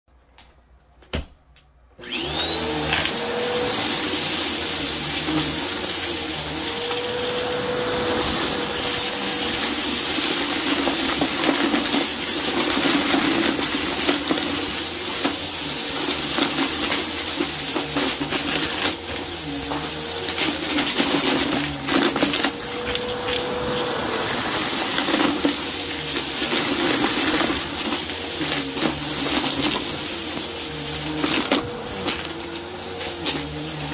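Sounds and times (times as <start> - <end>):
vacuum cleaner motor running: 2.0 - 33.9.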